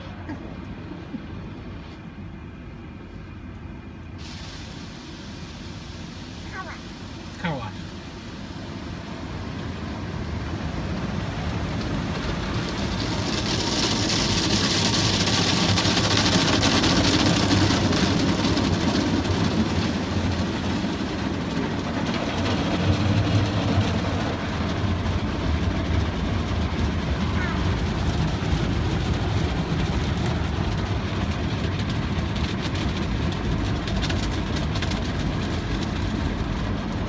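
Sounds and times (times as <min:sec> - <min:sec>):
car wash rushing hiss: 0:04.1 - 0:37.0
low rumble: 0:07.0 - 0:37.0.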